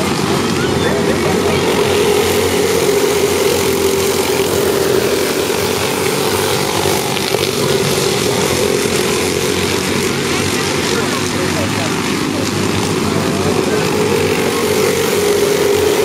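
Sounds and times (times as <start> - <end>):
go-kart engines droning: 0.0 - 16.0.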